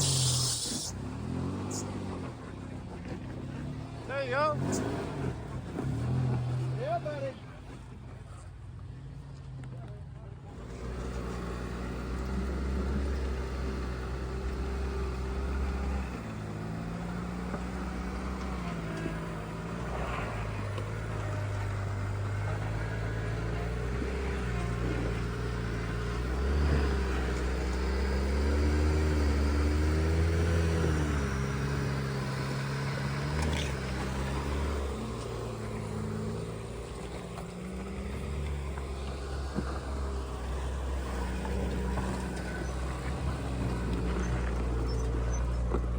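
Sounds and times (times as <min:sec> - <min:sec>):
truck engine revving: 0:00.0 - 0:07.9, 0:10.5 - 0:45.9.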